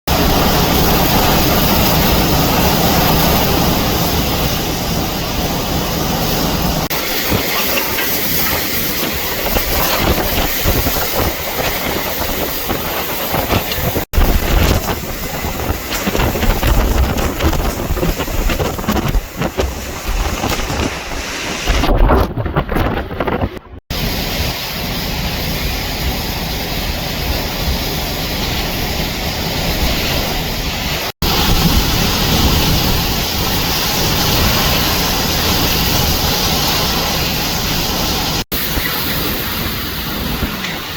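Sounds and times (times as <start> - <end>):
hurricane wind gusts buffeting microphone: 0.1 - 40.9.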